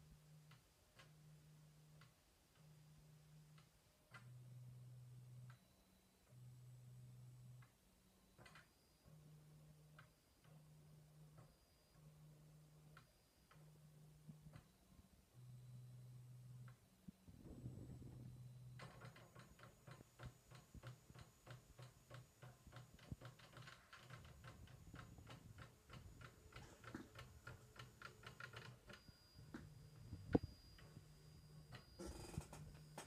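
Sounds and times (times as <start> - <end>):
faint low motor hum: 0.0 - 33.0.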